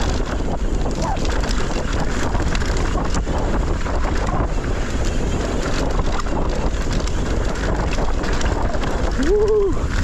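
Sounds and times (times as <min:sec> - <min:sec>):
bike clattering over rough ground: 0:00.0 - 0:10.0
tyres on loose dirt: 0:00.0 - 0:10.0
wind rushing over microphone: 0:00.0 - 0:10.0.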